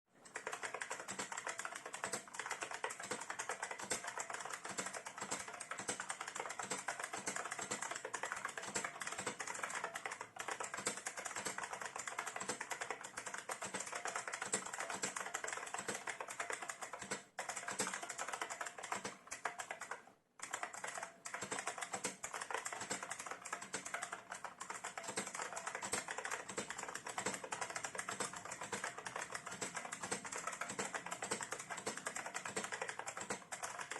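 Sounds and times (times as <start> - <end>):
mechanical keyboard typing: 0.2 - 33.9.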